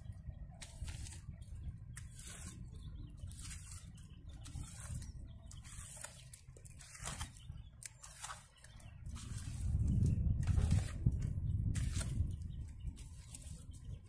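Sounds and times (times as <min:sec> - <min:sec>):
steady low rumble: 0:00.0 - 0:08.0, 0:08.6 - 0:14.0
hoe scraping wet mud: 0:00.0 - 0:14.0.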